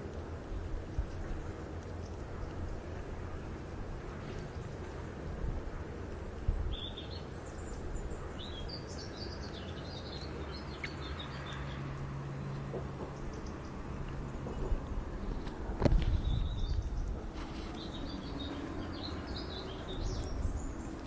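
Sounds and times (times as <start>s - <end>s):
birds chirping: 0.6s - 21.0s.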